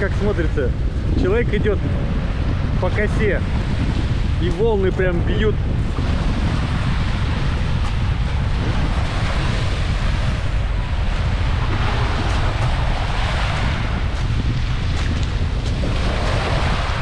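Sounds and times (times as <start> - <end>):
sea waves breaking on shore: 0.0 - 17.0
wind rumbling on microphone: 0.0 - 17.0.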